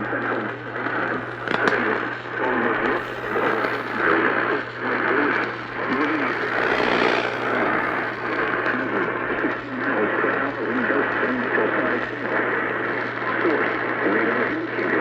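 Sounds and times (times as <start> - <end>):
muffled radio voice: 0.0 - 15.0
radio static crackles: 0.0 - 15.0
steady radio hum: 0.0 - 15.0.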